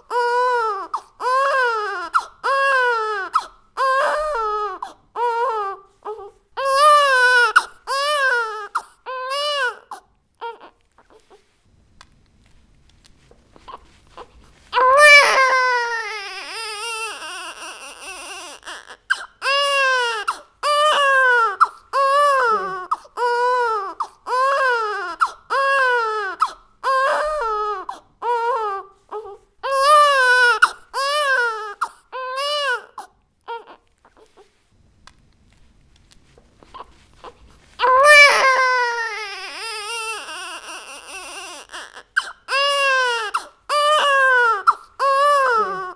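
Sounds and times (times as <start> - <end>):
baby crying: 0.0 - 11.3, 14.8 - 34.3, 36.8 - 45.9.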